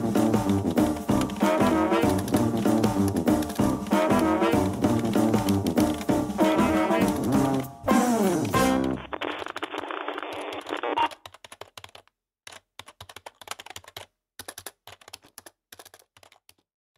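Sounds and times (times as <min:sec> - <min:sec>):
typing on computer keyboard: 0:00.5 - 0:07.7, 0:09.3 - 0:16.7.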